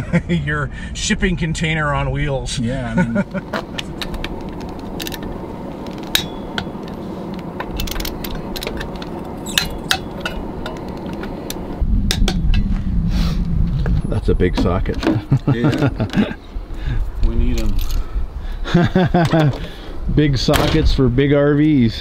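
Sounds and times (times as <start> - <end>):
steady low rumble: 0.0 - 19.2.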